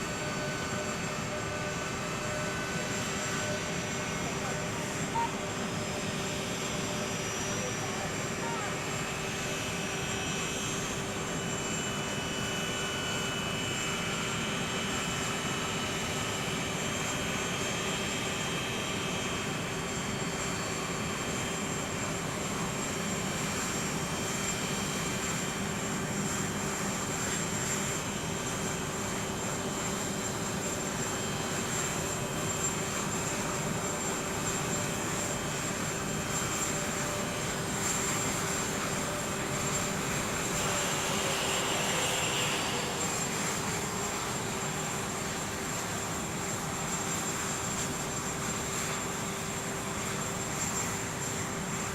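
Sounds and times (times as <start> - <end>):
aircraft engines running: 0.0 - 51.9.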